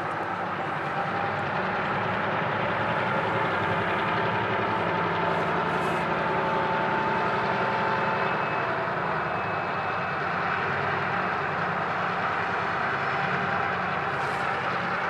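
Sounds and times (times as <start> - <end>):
diesel engine running: 0.0 - 15.0
rail cars rumbling on track: 0.0 - 15.0.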